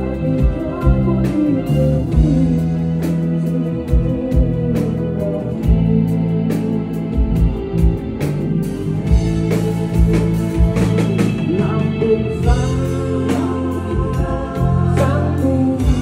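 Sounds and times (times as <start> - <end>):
electric guitar: 0.0 - 16.0
electronic organ chords: 0.0 - 16.0.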